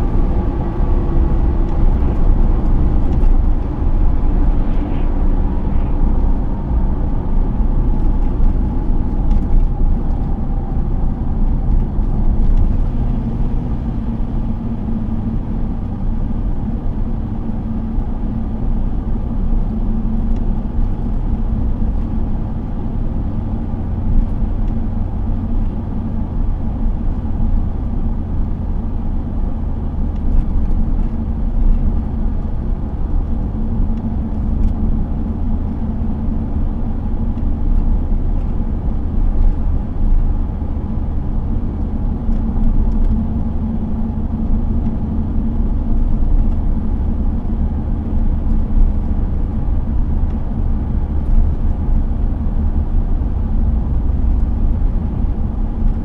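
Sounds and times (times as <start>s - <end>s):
car engine drone: 0.0s - 56.0s
tyre and road noise: 0.0s - 56.0s.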